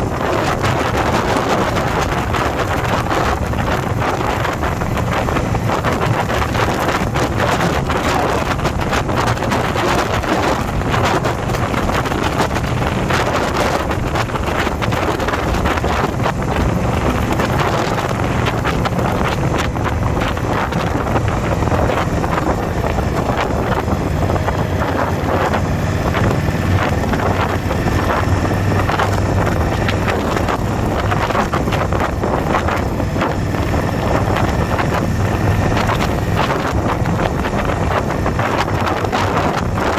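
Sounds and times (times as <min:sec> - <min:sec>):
motorcycle engine droning: 0:00.0 - 0:39.9
wind buffeting microphone: 0:00.0 - 0:39.9.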